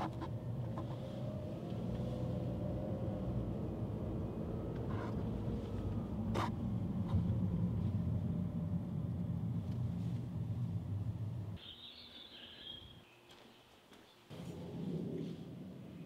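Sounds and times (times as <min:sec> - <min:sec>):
car engine and tyres rumbling: 0:00.0 - 0:11.6, 0:14.3 - 0:16.0.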